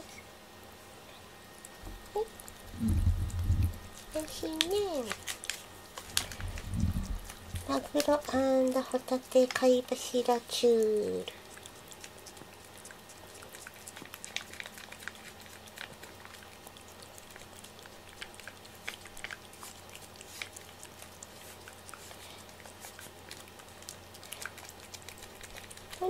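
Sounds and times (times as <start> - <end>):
cat licking and eating: 0.0 - 26.0.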